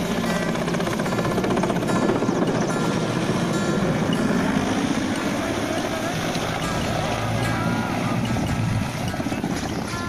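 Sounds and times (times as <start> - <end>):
helicopter rotor beating: 0.0 - 10.0.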